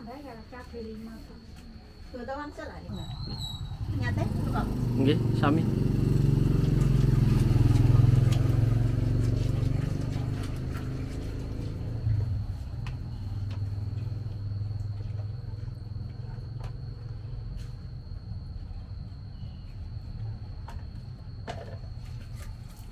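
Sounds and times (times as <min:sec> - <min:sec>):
vehicle engine hum: 0:02.9 - 0:22.9.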